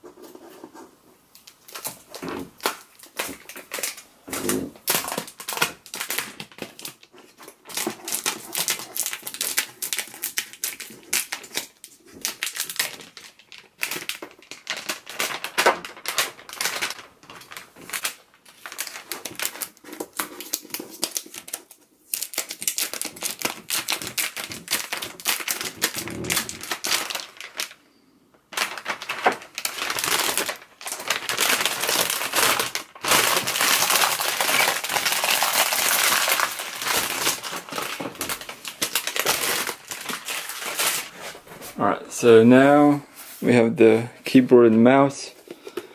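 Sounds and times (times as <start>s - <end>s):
plastic film crinkling: 1.3s - 27.8s, 28.5s - 43.7s.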